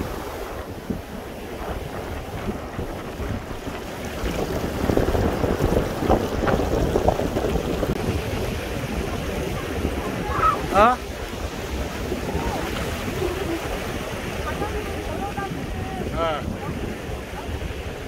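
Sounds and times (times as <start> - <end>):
sea waves washing on sand: 0.0 - 18.0
wind on microphone: 0.0 - 18.0.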